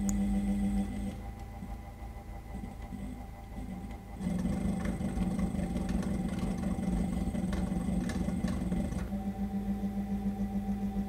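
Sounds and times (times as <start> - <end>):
ceiling fan motor hum: 0.0 - 11.0.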